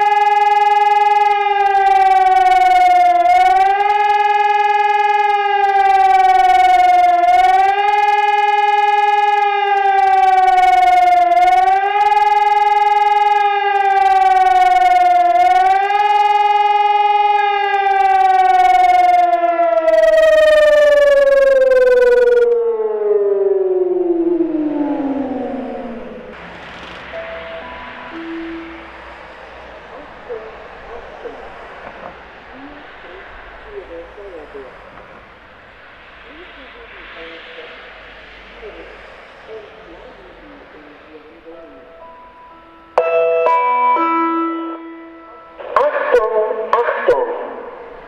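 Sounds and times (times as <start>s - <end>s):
siren wailing: 0.0s - 48.0s.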